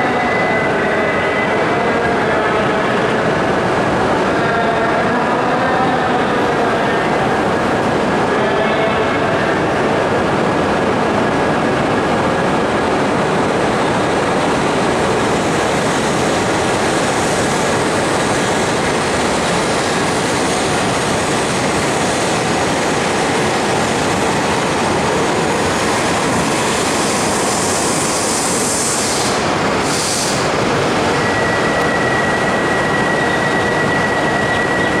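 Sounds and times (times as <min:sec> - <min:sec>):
train rushing past: 0:00.0 - 0:35.0.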